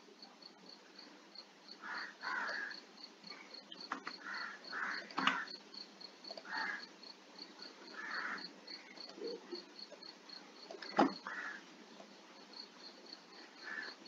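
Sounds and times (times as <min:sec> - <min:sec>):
cricket chirping: 0:00.1 - 0:14.0.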